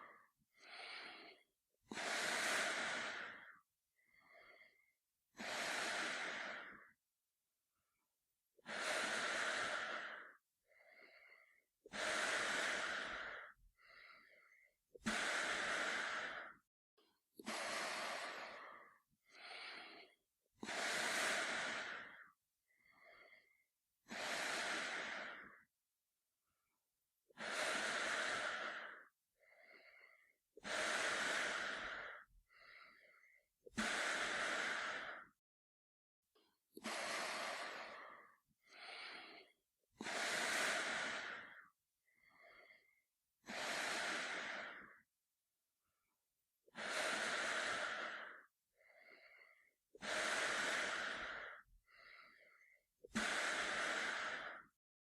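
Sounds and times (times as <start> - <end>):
man breathing through gas mask: 0.0 - 7.0, 8.6 - 16.7, 17.4 - 25.7, 27.3 - 35.4, 36.8 - 45.1, 46.6 - 54.8.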